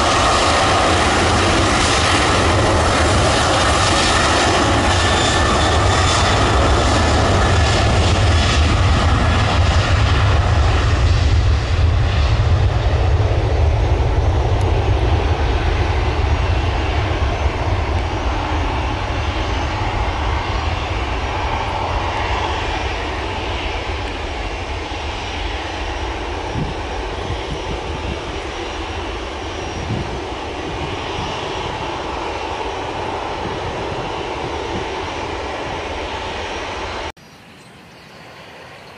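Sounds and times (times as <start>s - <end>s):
jet engines rumbling at takeoff: 0.0s - 38.9s.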